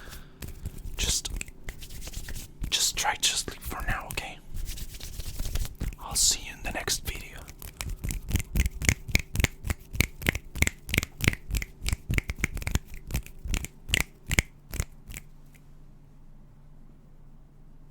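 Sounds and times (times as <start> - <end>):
quick sharp hand strokes: 0.0 - 15.8.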